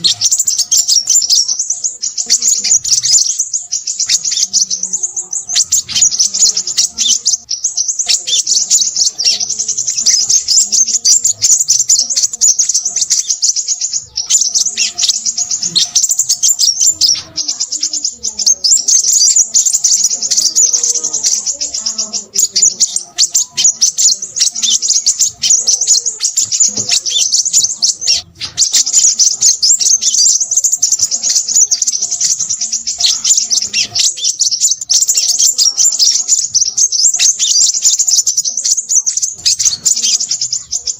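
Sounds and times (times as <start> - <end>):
bird singing high twitters: 0.0 - 40.9.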